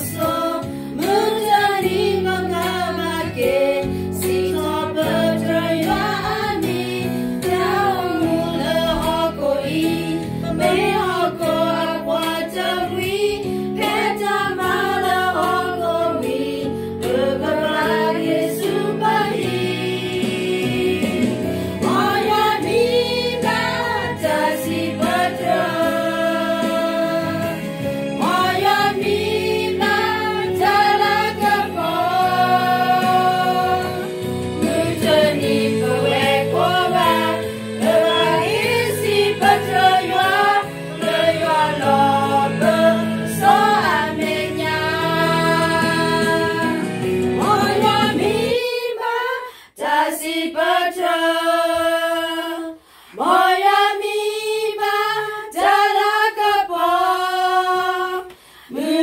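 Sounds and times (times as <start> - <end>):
backing music: 0.0 - 48.8
women singing together: 0.0 - 59.0.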